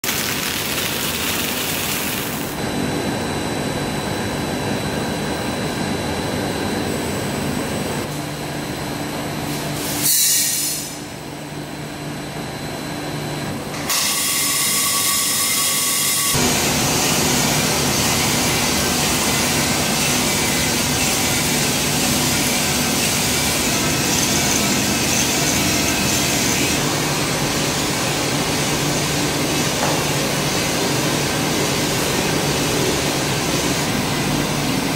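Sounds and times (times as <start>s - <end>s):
coffee roaster motor and fan whirring: 0.0s - 34.9s.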